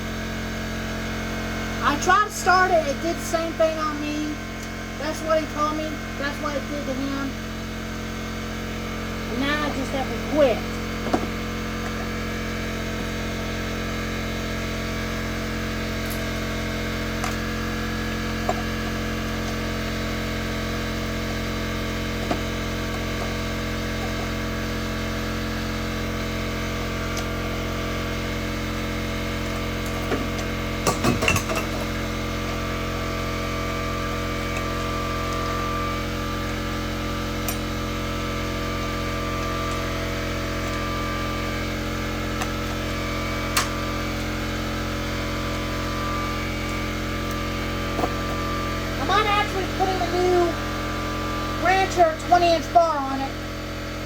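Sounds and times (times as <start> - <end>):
steady multi-pitched hum: 0.0 - 54.0.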